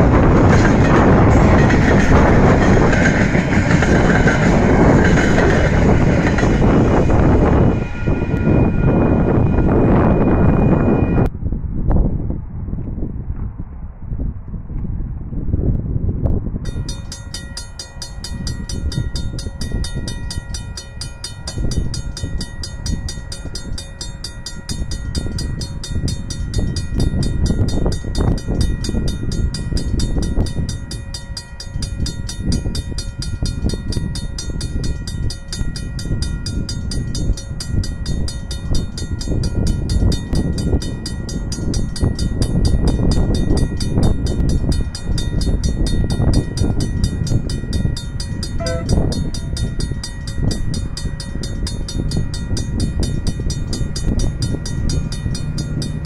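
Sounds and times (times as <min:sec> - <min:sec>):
level crossing warning bells: 0:00.0 - 0:11.3, 0:16.7 - 0:56.0
wind buffeting microphone: 0:00.0 - 0:56.0.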